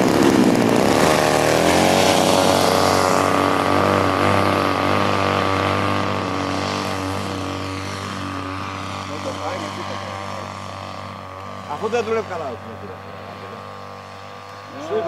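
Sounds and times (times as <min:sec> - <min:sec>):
model airplane engine revving: 0:00.0 - 0:15.0.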